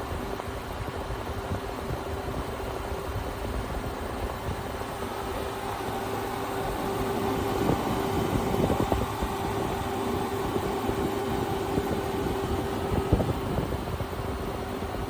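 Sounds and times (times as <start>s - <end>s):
air conditioner fan rushing: 0.0s - 15.0s.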